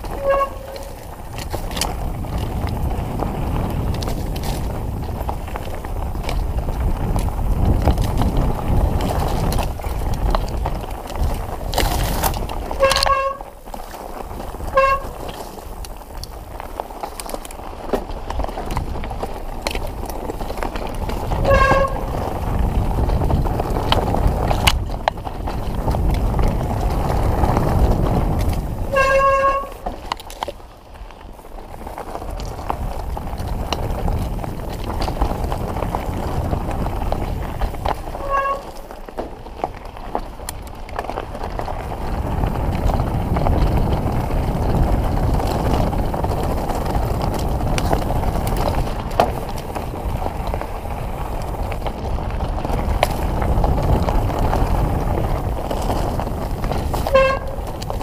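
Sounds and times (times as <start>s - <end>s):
bike rolling over rocky trail: 0.0s - 58.0s
wind on microphone: 0.0s - 58.0s.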